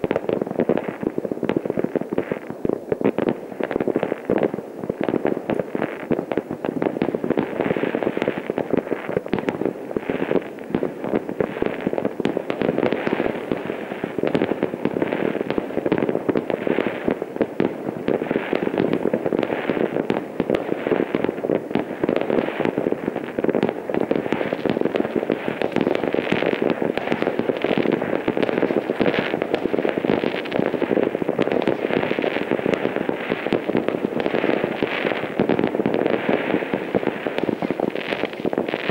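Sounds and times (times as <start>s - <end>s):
fireworks and firecrackers crackling: 0.0s - 38.9s.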